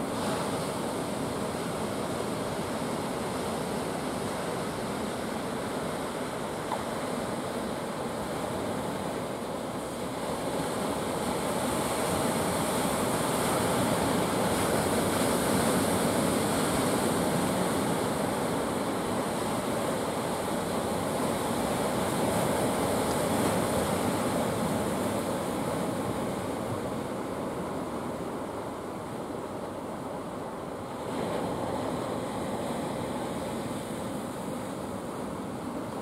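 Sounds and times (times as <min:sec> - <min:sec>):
sea surf washing onto shore: 0:00.0 - 0:36.0.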